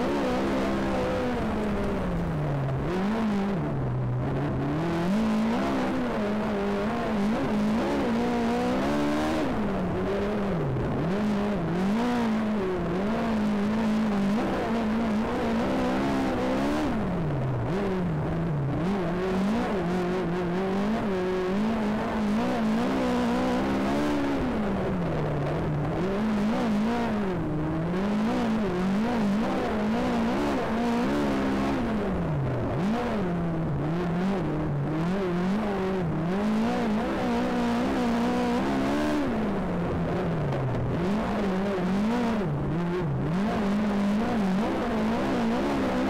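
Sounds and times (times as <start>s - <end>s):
race car engine revving: 0.0s - 46.0s.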